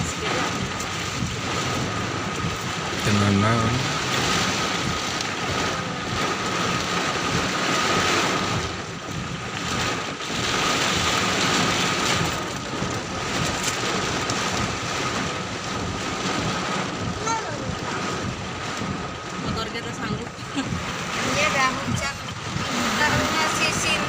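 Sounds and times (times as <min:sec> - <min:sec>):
heavy downpour: 0:00.0 - 0:24.0
wind buffeting microphone: 0:00.0 - 0:24.0.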